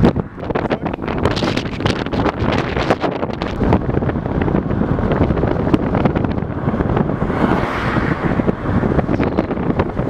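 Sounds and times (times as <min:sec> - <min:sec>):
moving car rumble: 0:00.0 - 0:10.0
wind buffeting microphone: 0:00.0 - 0:10.0.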